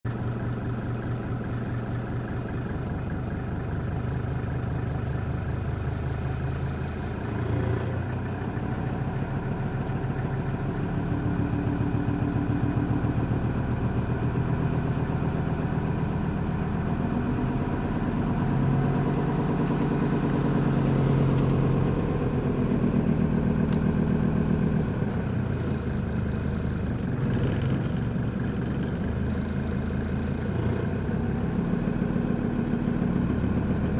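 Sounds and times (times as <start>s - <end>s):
diesel engine with ticking knock: 0.0s - 33.9s.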